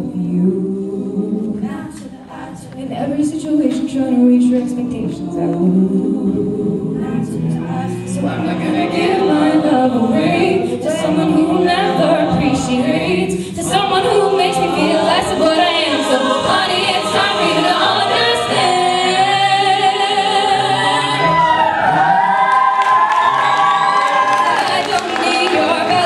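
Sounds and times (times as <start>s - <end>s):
choir singing in harmony: 0.0s - 26.0s.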